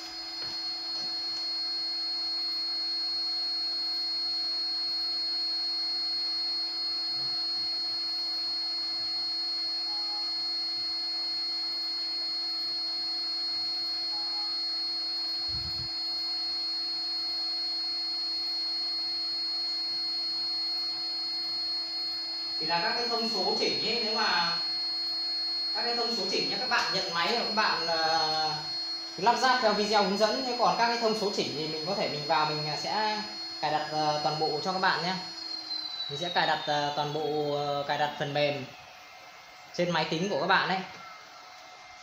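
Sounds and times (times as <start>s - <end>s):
router spindle whine: 0.0s - 42.0s.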